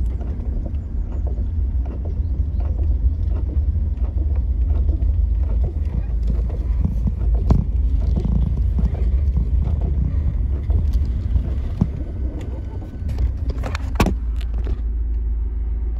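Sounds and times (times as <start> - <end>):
phone microphone handling rumble: 0.0 - 15.0.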